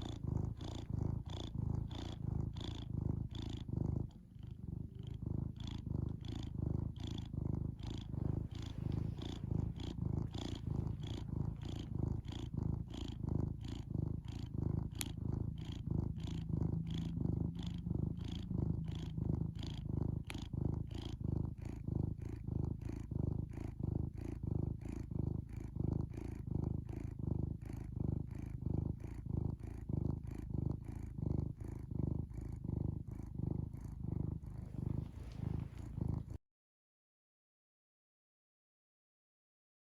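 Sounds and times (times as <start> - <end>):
cat purring: 0.0 - 36.4.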